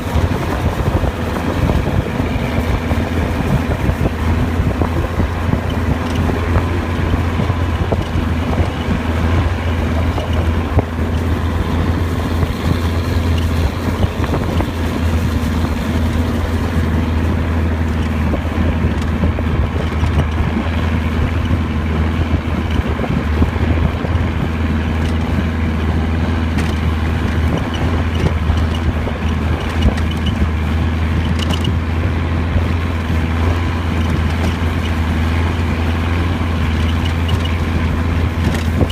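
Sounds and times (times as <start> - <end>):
boat engine humming: 0.0 - 38.9
water rushing: 0.0 - 38.9.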